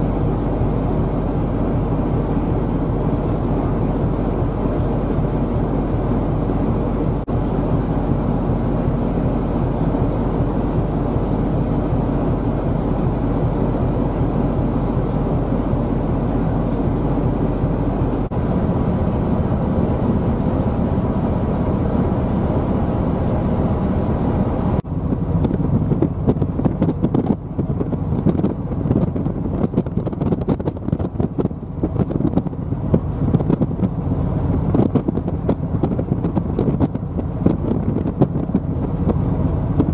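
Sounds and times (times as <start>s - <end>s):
ship engine rumble: 0.0s - 39.9s
wind buffeting microphone: 0.0s - 39.9s.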